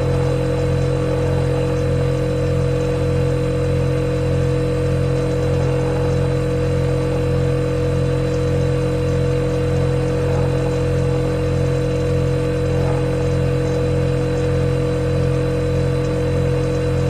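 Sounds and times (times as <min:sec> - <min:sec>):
refrigerator compressor hum: 0:00.0 - 0:17.0.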